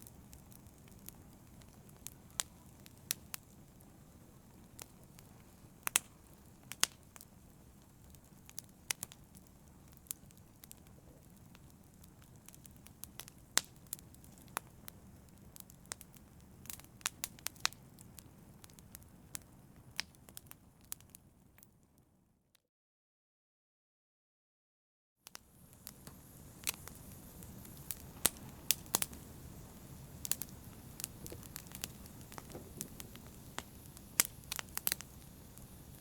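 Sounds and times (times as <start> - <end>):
wood fire pops and snaps: 0.0 - 21.2, 25.3 - 36.0
low rumble of flames: 0.0 - 21.6, 25.3 - 36.0.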